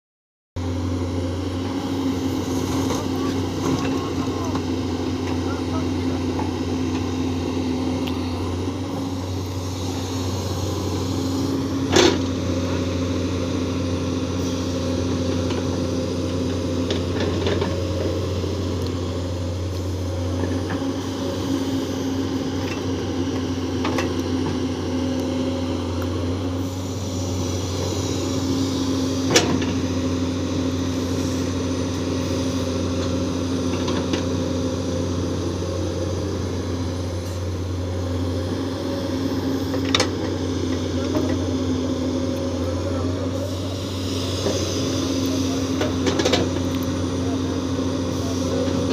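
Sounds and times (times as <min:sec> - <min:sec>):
excavator diesel engine droning: 0:00.6 - 0:48.9.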